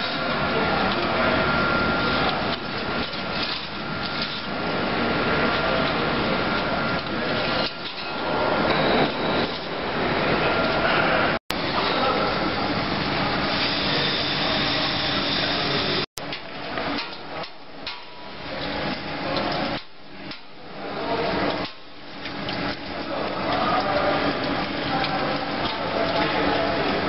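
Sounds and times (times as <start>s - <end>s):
machine shop noise: 0.0s - 27.0s.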